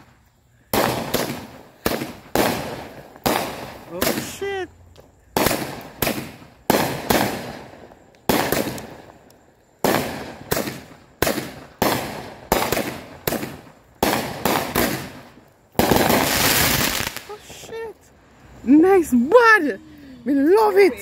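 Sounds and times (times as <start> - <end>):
fireworks bangs: 0.0 - 17.9.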